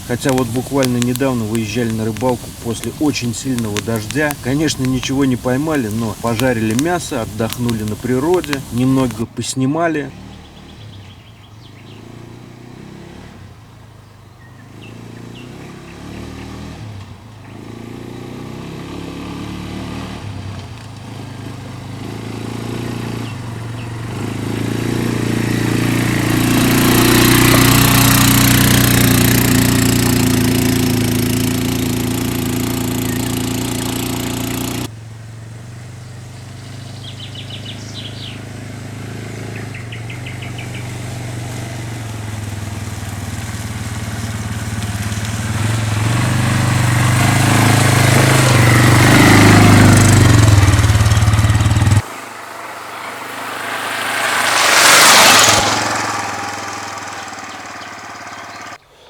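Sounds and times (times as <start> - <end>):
quad bike engine running: 0.0 - 9.3, 10.2 - 58.8.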